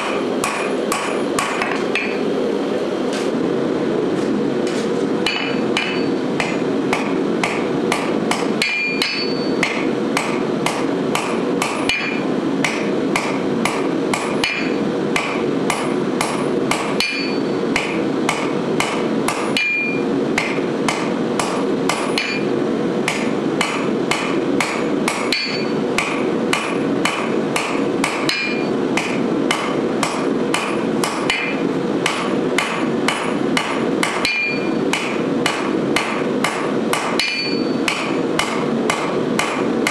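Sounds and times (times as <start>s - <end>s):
hammer striking metal on anvil: 0.0s - 2.3s, 5.2s - 39.9s.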